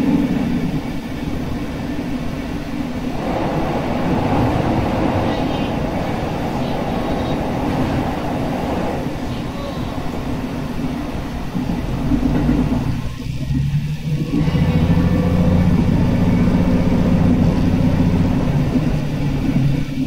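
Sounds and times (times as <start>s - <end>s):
deep engine drone: 0.0s - 20.0s
railcar wheel rumble: 0.0s - 20.0s.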